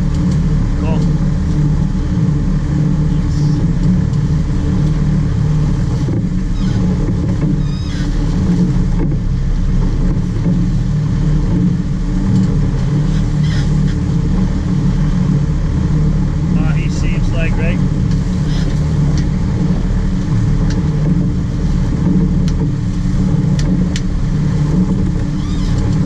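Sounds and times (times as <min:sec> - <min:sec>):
boat engine drone: 0:00.0 - 0:26.0
water noise of boat: 0:00.0 - 0:26.0.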